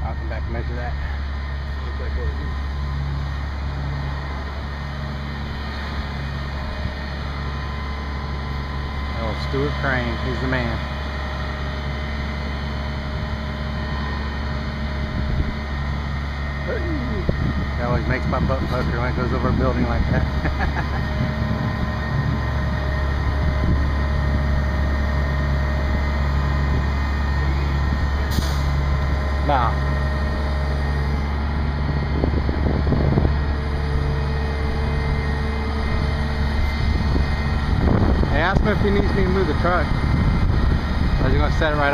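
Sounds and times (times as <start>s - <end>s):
crane diesel engine rumbling: 0.0s - 41.9s.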